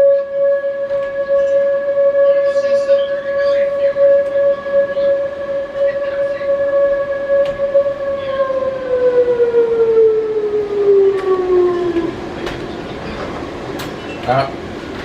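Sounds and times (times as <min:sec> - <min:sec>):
electromechanical warning siren: 0:00.0 - 0:15.0.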